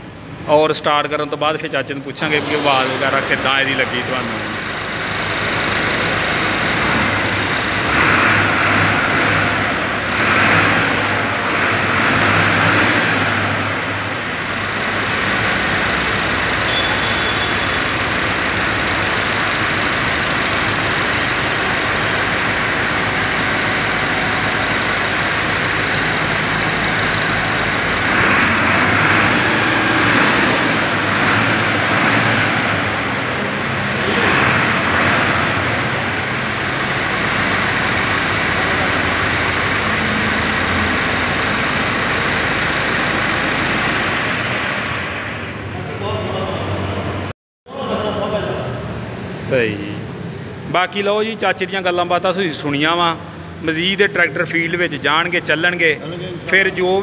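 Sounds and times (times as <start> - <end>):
tractor diesel engine running: 0.0 - 47.3, 48.9 - 57.0.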